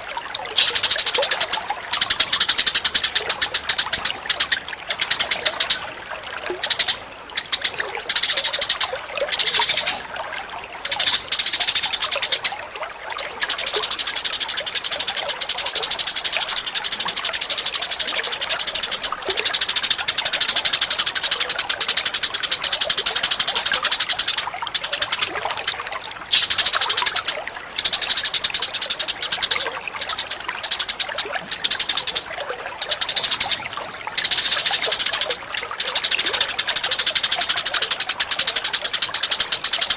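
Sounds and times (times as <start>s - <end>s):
running water: 0.0s - 39.9s
bird chattering trills: 0.5s - 5.9s, 6.5s - 10.0s, 10.8s - 39.9s.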